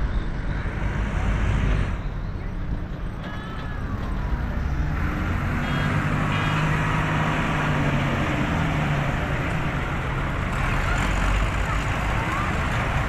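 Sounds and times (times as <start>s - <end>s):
tractor engines driving past: 0.0s - 13.0s.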